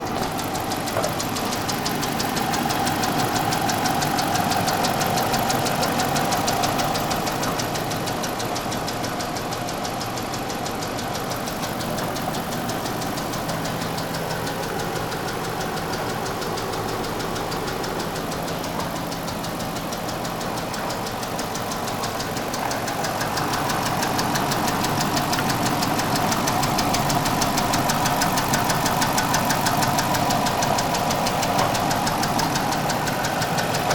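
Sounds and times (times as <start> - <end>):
car engine knocking tick: 0.0 - 33.9.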